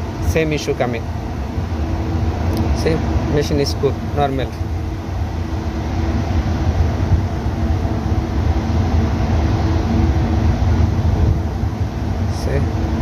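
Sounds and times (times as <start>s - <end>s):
faint steady hum: 0.0s - 13.0s
washing machine rumbling: 0.0s - 13.0s.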